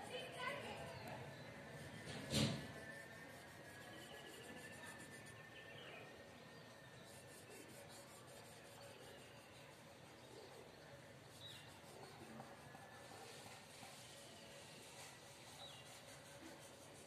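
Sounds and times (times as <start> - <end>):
marker pen rubbing on whiteboard: 0.0 - 5.5, 6.9 - 10.6, 11.2 - 17.0.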